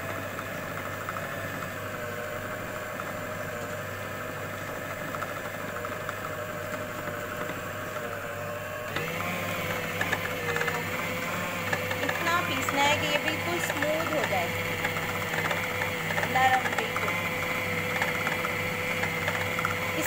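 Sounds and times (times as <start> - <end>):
food processor grinding meat: 0.0 - 20.0.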